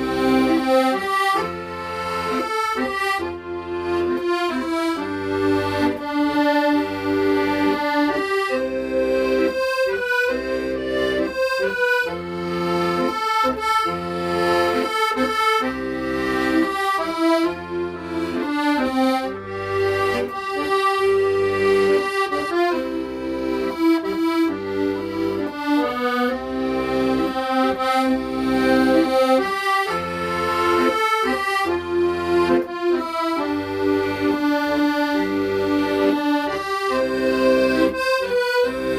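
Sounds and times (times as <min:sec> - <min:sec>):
accordion melody: 0:00.0 - 0:38.9.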